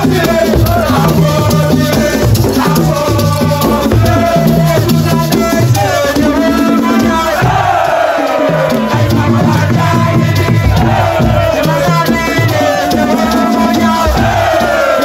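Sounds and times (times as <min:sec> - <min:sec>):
shakers: 0:00.0 - 0:15.0
steady drumming: 0:00.0 - 0:15.0.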